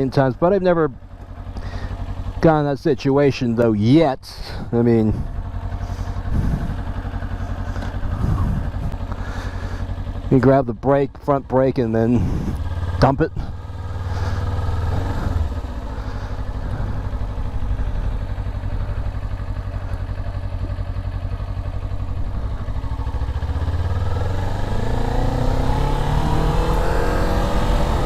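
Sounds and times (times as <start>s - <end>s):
motorcycle engine accelerating: 0.0s - 3.7s, 4.4s - 28.0s.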